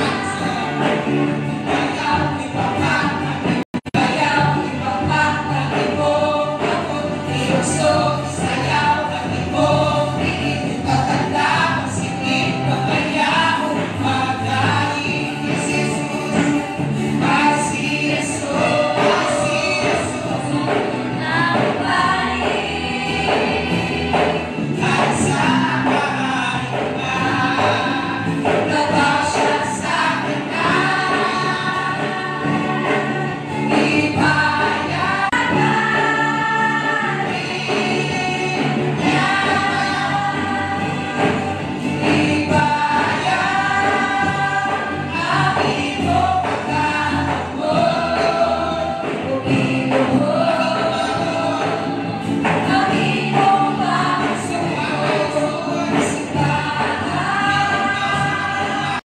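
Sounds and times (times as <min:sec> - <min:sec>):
accompanying music: 0:00.0 - 0:59.0
group singing a hymn: 0:00.0 - 0:59.0.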